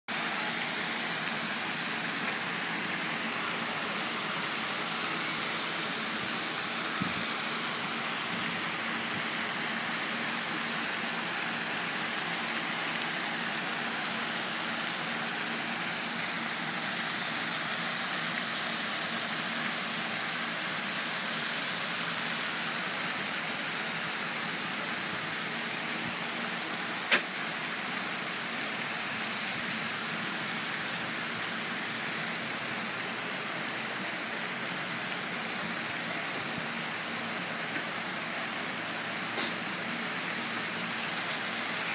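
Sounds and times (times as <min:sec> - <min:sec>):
fountain spray splashing on water: 0:00.1 - 0:41.9.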